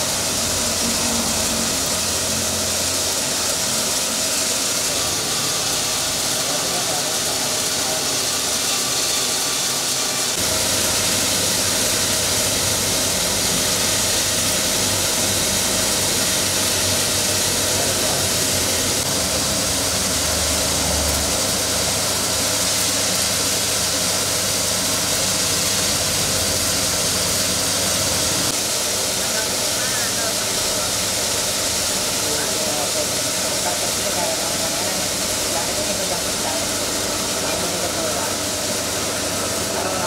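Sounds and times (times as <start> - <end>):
machine hiss-like rush: 0.0 - 40.0.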